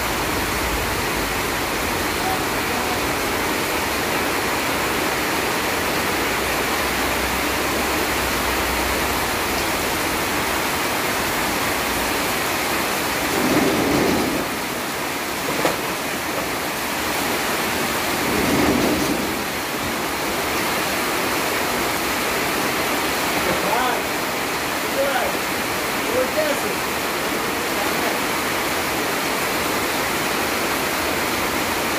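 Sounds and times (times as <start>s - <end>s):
heavy rain falling: 0.0s - 31.9s.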